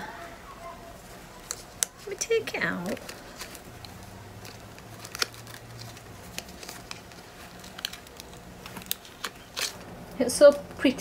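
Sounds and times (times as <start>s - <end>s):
paper packet rustling: 0.6s - 11.0s
sharp crinkles and clicks: 0.9s - 11.0s.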